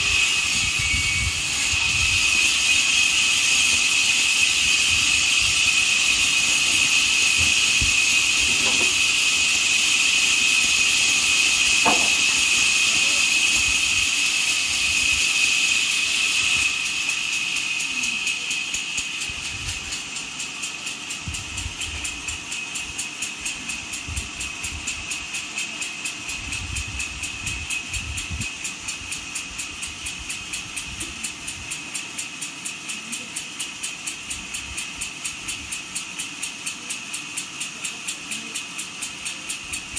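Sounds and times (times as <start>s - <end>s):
even mechanical pulsing: 0.0s - 39.9s
sawmill machinery whining: 0.0s - 39.9s.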